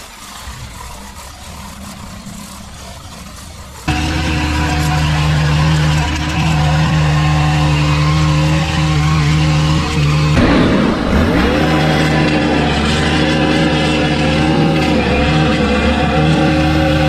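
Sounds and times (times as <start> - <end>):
small gas engine running: 0.0 - 17.0.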